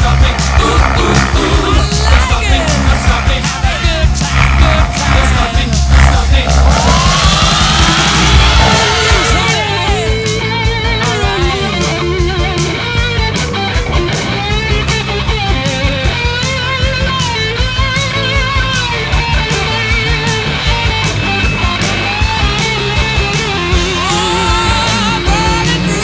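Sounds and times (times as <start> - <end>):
rock music with guitar solo: 0.0 - 26.0.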